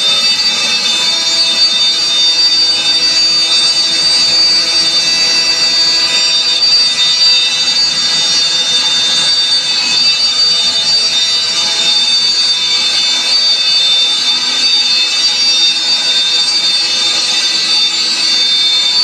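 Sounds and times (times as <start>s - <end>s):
router spindle whine: 0.0s - 19.0s
wood cutting noise: 0.0s - 19.0s.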